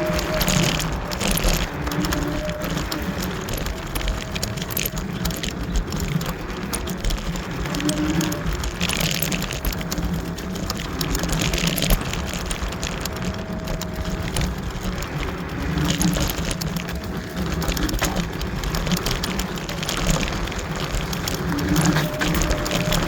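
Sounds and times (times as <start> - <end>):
electric scooter hum: 0.0 - 23.0
wind and tyres rushing: 0.0 - 23.0.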